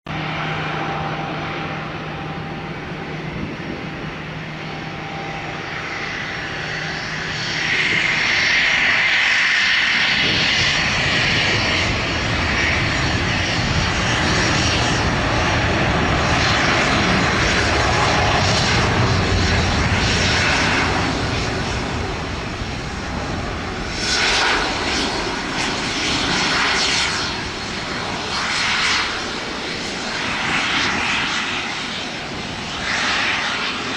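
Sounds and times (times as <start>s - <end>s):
jet airliner roar at takeoff: 0.1s - 33.9s.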